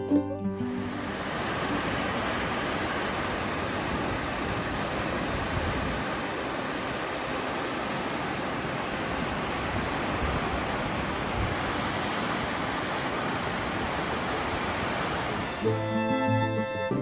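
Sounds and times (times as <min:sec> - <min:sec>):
creek water rushing: 0:00.6 - 0:17.0.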